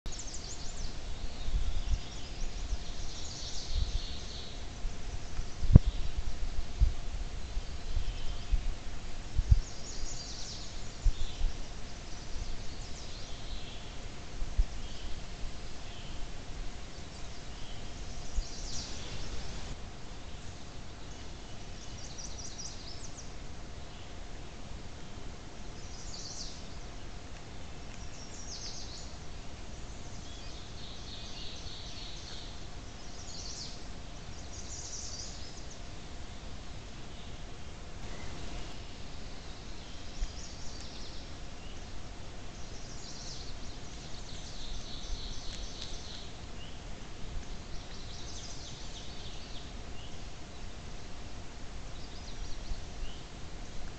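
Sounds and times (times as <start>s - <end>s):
faint distant bird chirps: 0.1s - 8.7s, 14.6s - 24.2s, 25.0s - 53.3s
faint steady hum: 0.1s - 53.9s
steady hiss: 0.1s - 53.9s.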